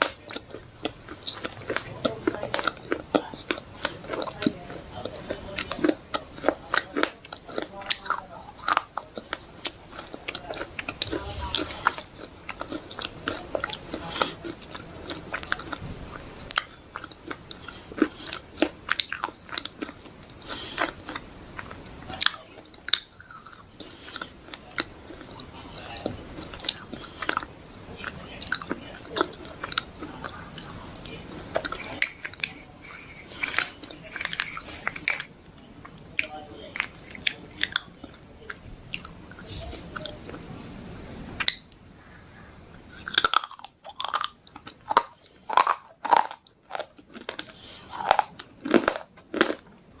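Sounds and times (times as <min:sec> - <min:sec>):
crunchy chewing of dry clay: 0:00.0 - 0:50.0.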